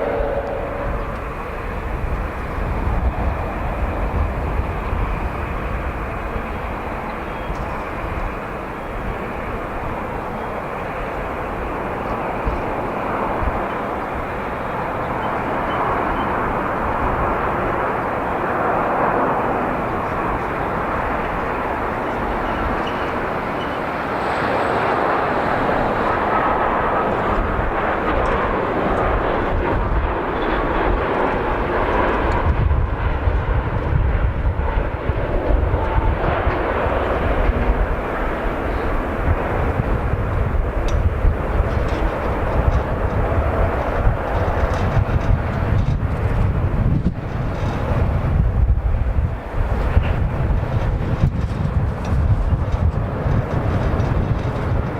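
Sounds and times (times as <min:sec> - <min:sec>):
jet engines: 0:00.0 - 0:54.9
wind rumbling on microphone: 0:00.0 - 0:54.9.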